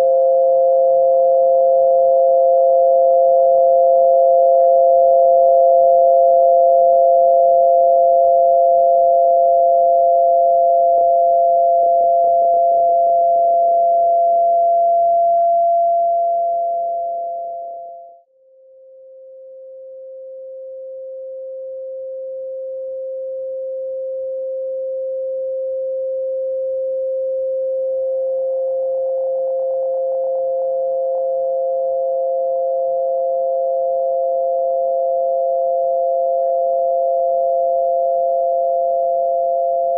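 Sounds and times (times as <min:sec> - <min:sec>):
steady sine tones: 0:00.0 - 0:39.9.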